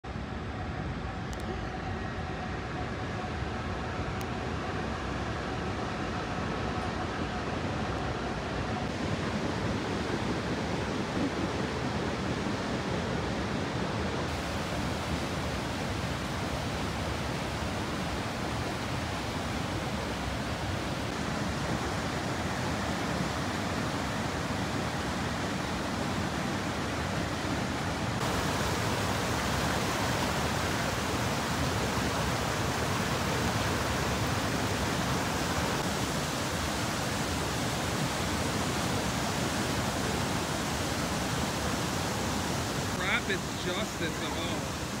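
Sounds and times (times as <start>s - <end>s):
floodwater rushing over a dam: 3.6s - 45.0s.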